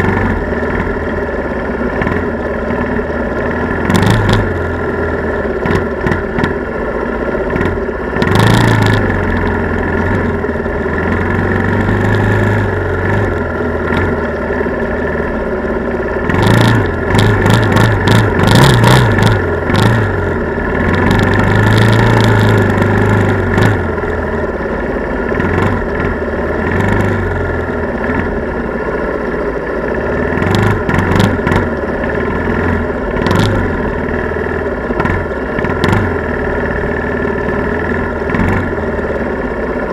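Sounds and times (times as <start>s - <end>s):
knocks and rattles over bumps: 0.0s - 24.3s, 30.2s - 39.1s
quad bike engine running: 0.0s - 39.9s.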